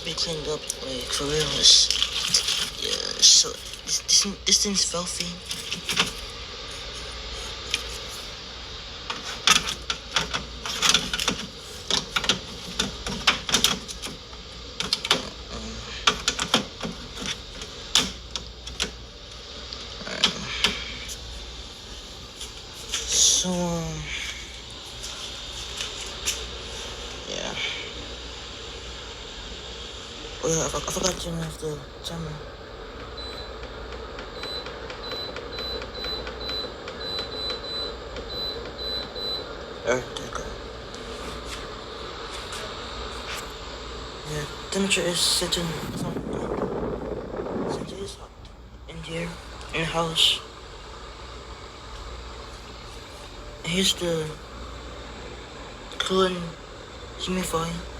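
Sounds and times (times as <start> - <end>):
air cooler low hum: 0.0 - 57.9.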